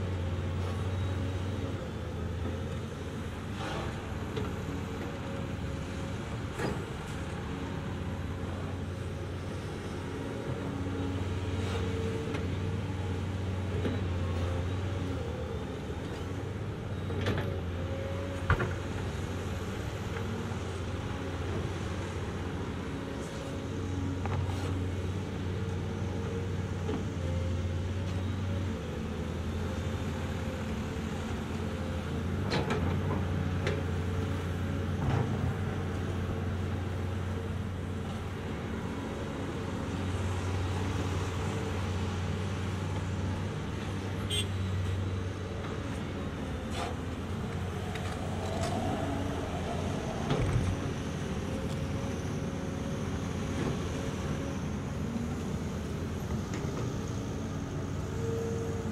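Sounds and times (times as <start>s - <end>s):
excavator engine drone: 0.0s - 58.9s.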